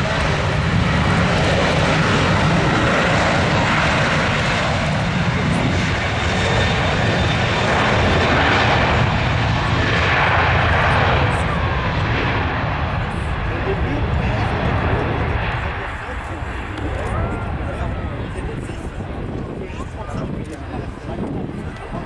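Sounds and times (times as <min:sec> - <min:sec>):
jet engines at takeoff thrust: 0:00.0 - 0:22.0.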